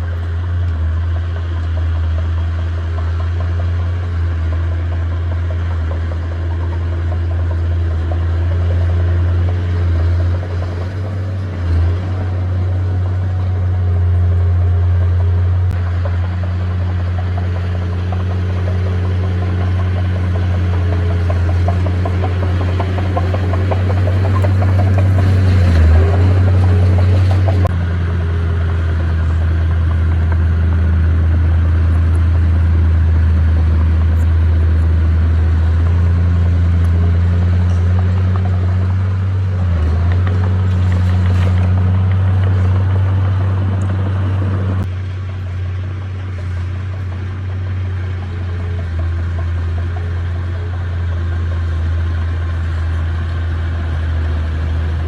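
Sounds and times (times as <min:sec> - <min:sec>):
diesel earthmoving machine humming: 0:00.0 - 0:55.0.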